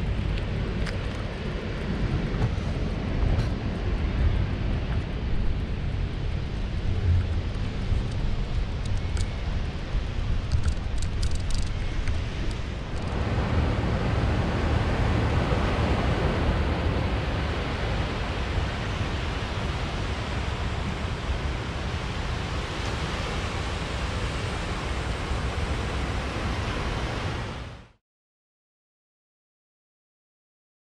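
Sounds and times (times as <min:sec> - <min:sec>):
surf washing on sandy beach: 0:00.0 - 0:28.0
wind rumbling on microphone: 0:00.0 - 0:28.0.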